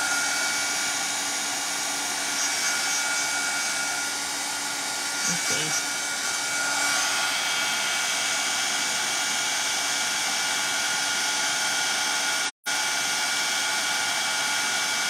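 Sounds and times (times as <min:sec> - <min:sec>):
heat tool blowing: 0:00.0 - 0:15.0.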